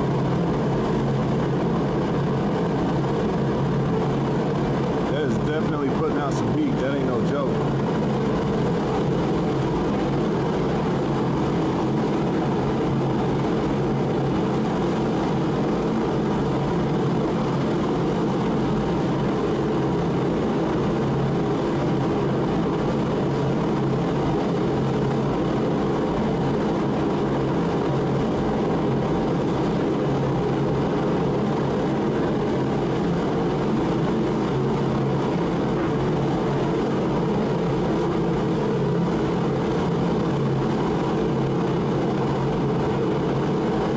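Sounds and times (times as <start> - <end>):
propane heater fan and burner roar: 0.0 - 43.9.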